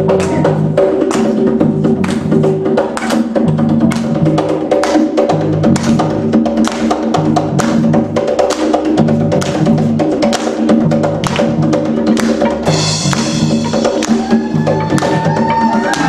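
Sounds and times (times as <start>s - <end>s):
bass notes: 0.0s - 16.0s
drum kit: 0.0s - 16.0s
hand percussion: 0.0s - 16.0s.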